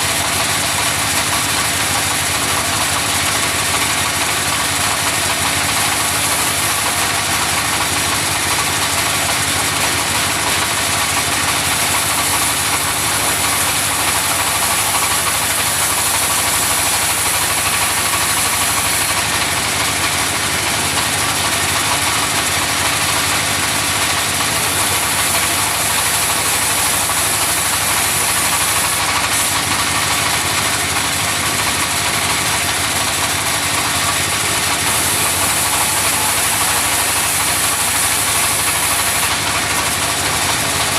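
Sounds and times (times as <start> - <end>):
engine-driven sawmill running: 0.0 - 40.9.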